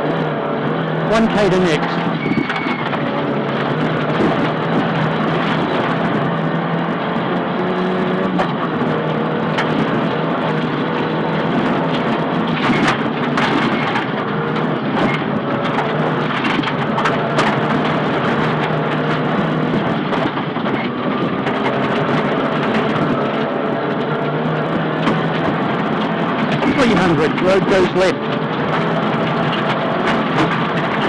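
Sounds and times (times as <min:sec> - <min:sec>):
car engine pulling at speed: 0:00.0 - 0:31.0
road noise: 0:00.0 - 0:31.0.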